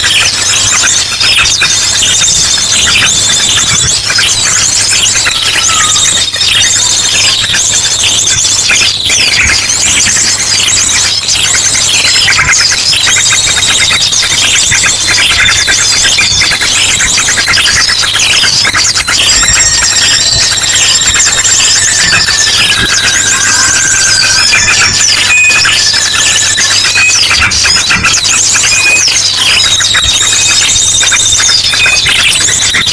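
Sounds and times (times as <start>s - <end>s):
long whistled bird calls: 0.0s - 32.9s
small birds chirping and trilling: 0.0s - 32.9s.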